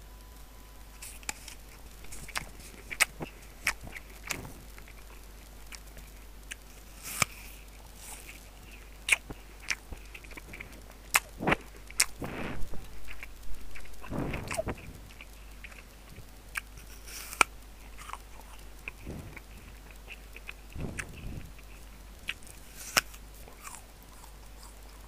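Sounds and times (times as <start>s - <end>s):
crunchy chewing and biting: 1.0s - 25.0s.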